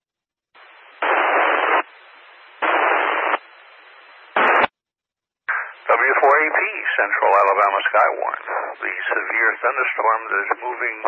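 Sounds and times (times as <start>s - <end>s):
radio static hiss: 0.6s - 4.7s, 5.5s - 11.0s.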